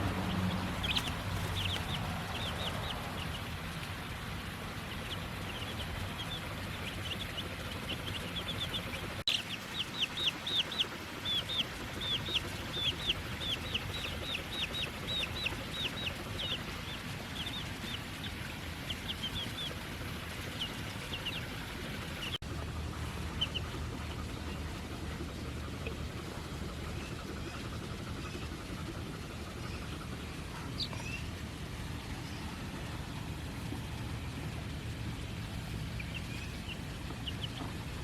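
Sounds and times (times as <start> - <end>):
baby chicks peeping: 0.0 - 38.0.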